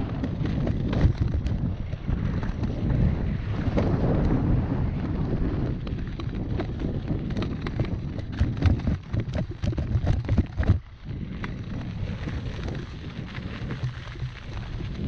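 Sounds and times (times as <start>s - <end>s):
bike knocking and clattering: 0.0s - 4.4s, 5.0s - 12.8s
bike tyres rumbling over rock: 0.0s - 15.0s
wind buffeting microphone: 0.0s - 15.0s.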